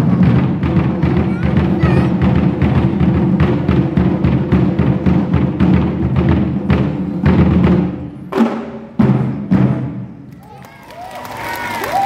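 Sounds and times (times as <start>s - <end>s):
heavy unison drum hits: 0.0s - 10.1s
drum ensemble playing: 0.0s - 10.3s.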